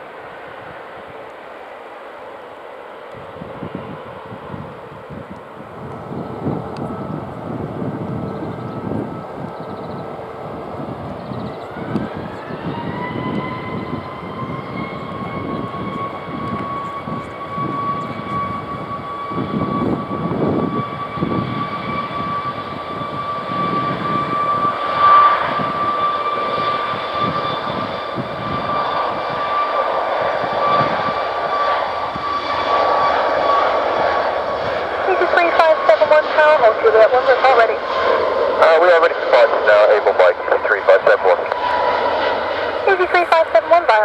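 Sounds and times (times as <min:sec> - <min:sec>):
jet engines spooling up: 0:00.0 - 0:44.0
runway rumble: 0:02.5 - 0:44.0.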